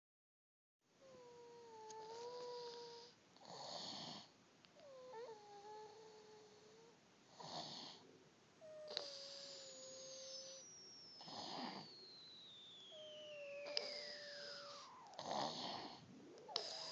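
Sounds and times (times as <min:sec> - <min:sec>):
child snoring softly: 0:01.0 - 0:12.2, 0:12.9 - 0:16.9.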